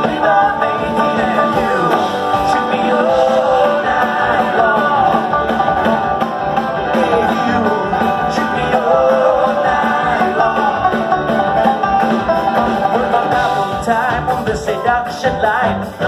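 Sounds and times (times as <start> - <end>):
person singing: 0.0 - 11.6, 12.2 - 16.0
live band playing country rock: 0.0 - 16.0.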